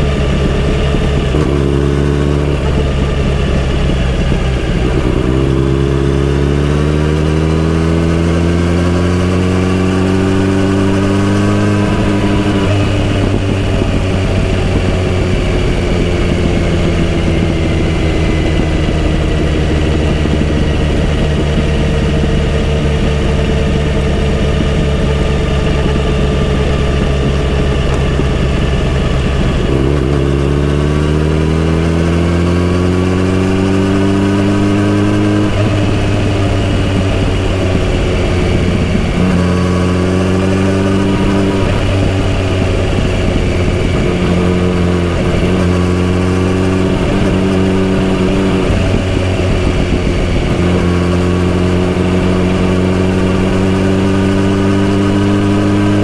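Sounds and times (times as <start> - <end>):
motorcycle engine and exhaust: 0.0 - 56.0
wind and road noise: 0.0 - 56.0.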